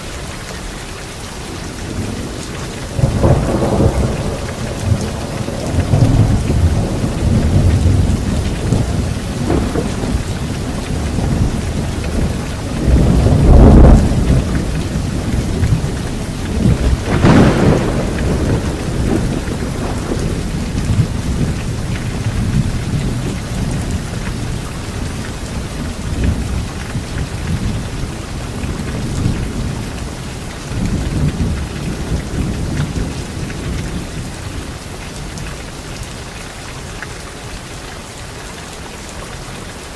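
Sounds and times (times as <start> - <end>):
steady rain: 0.0 - 39.9
rolling thunder: 1.8 - 34.7
thunder claps: 1.8 - 34.7.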